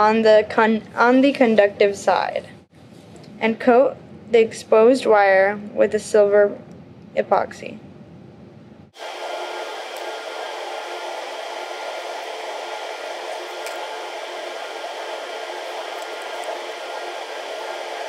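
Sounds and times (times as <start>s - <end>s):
fan whirring: 0.0s - 18.0s.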